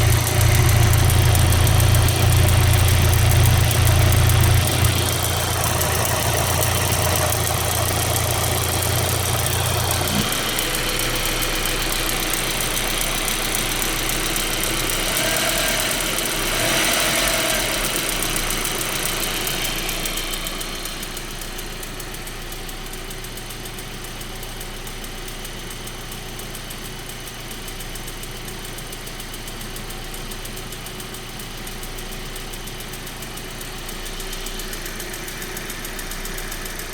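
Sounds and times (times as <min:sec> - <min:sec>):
car engine idling: 0:00.0 - 0:36.9
engine ticking: 0:00.0 - 0:36.9.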